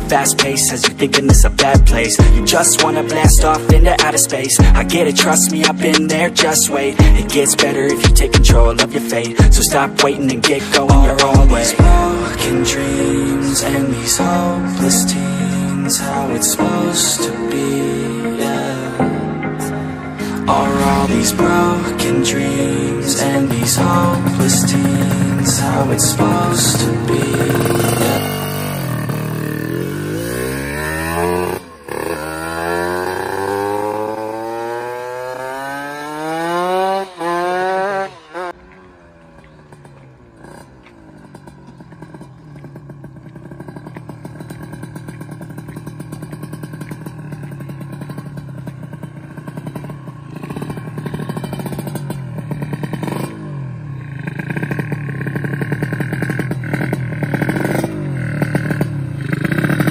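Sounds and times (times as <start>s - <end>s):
motorcycle accelerating hard: 0.0s - 59.9s.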